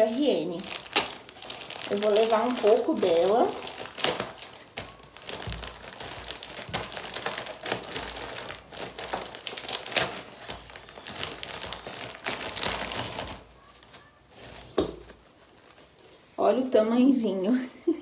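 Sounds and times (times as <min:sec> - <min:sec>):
plastic wrapping crinkling: 0:00.0 - 0:16.8.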